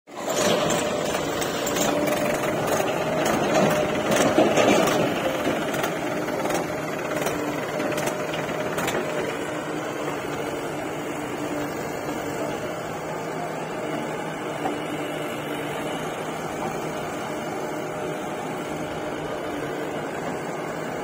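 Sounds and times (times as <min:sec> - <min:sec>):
tractor diesel engine running: 0:00.1 - 0:21.0.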